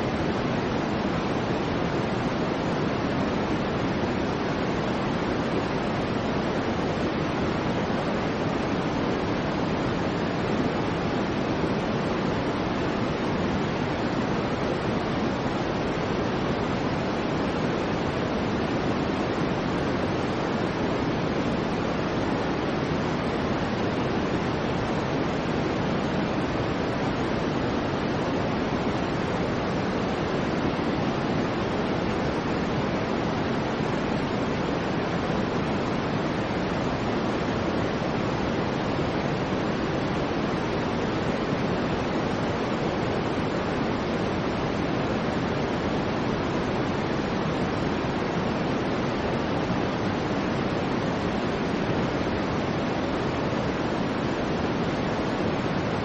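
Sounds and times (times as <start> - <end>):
soft white noise hiss: 0.0 - 56.0.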